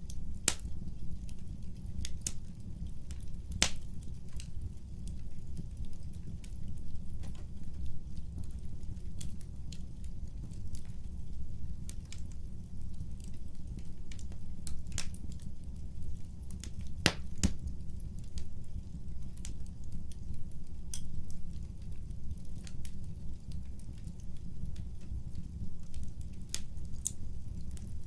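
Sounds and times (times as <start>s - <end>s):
low rumble of burning: 0.0s - 28.0s
wood fire crackling and popping: 0.0s - 28.0s.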